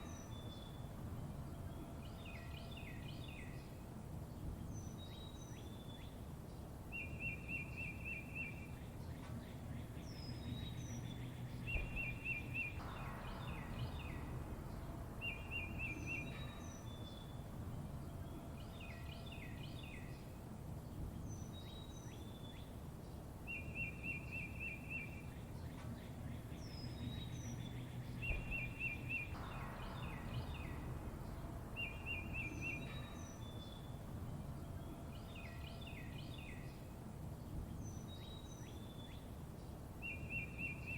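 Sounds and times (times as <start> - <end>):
low background rumble: 0.0 - 7.3, 8.6 - 23.6, 25.1 - 40.0
songbirds chirping: 0.0 - 40.9.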